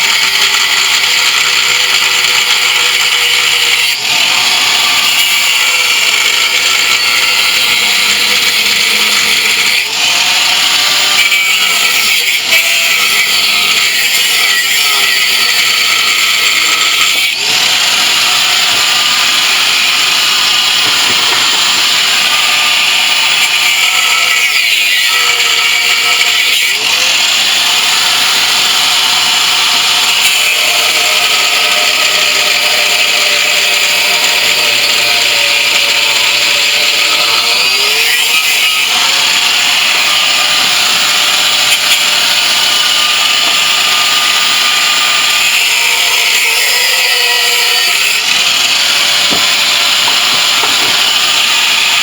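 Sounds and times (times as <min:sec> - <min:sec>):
angle grinder running: 0:00.0 - 0:52.0.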